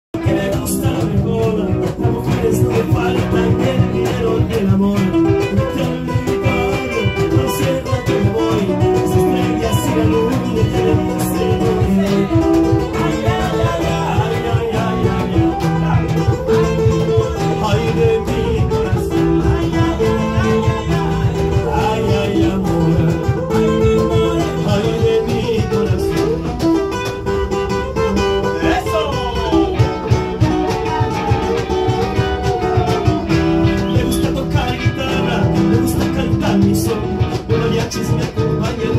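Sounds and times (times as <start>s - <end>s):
acoustic guitar: 0.1s - 38.9s
electric guitar: 0.1s - 38.9s
man singing into a microphone: 0.1s - 38.9s.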